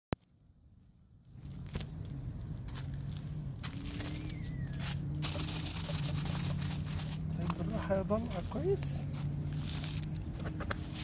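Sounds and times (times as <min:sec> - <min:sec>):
cricket chirping: 0:00.2 - 0:11.0.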